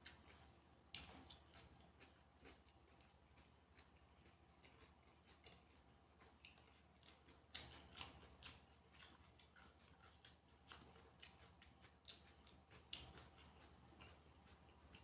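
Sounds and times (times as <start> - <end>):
chewing crunches and mouth clicks: 0.0 - 15.0
low steady hum: 0.0 - 15.0.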